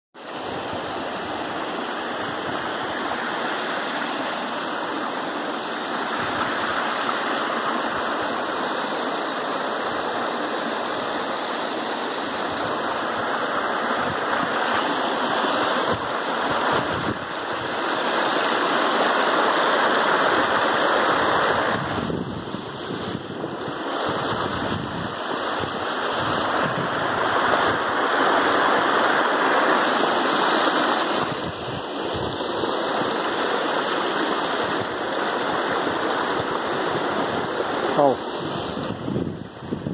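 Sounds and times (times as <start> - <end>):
stream rushing over rocks: 0.2 - 39.9.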